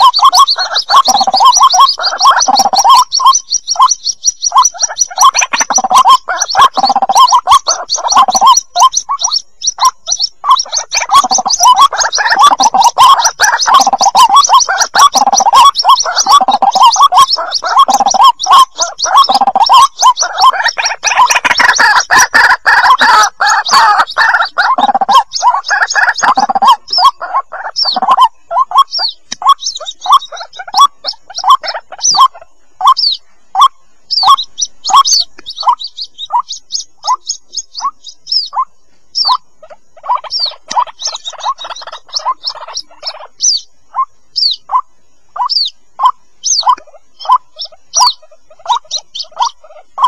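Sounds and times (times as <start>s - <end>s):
high thin chick peeps: 0.0s - 50.0s.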